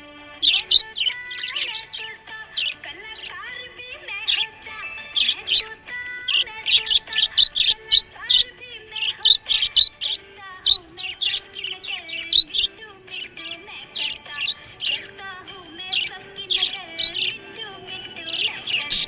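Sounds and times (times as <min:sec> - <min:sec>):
held gliding melody: 0:00.0 - 0:19.0
parrots chirping and chattering: 0:00.0 - 0:19.0.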